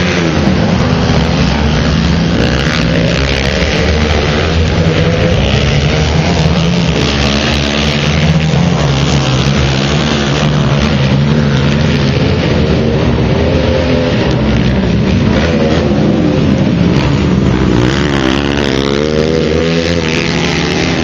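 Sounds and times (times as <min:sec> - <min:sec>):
quad engines revving: 0:00.0 - 0:21.0.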